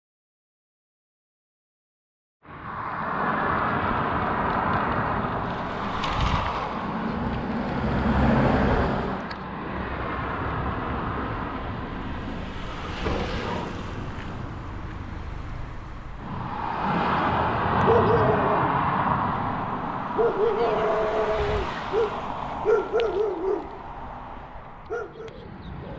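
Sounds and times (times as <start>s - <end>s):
road traffic rumble: 2.4s - 25.9s.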